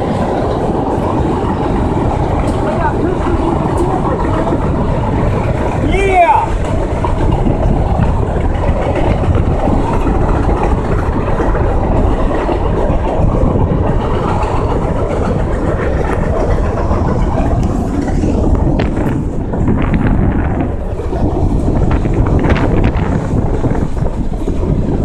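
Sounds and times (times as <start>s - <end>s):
train wheels rumbling on rail: 0.0s - 25.0s
wind on microphone: 0.0s - 25.0s.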